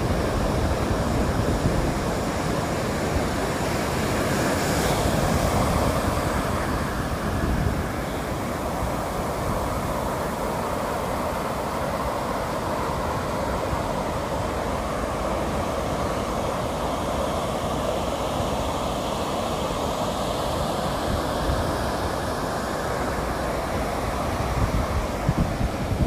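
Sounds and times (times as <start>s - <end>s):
low rumble of surf: 0.0s - 26.0s
waves breaking on a beach: 0.0s - 26.0s.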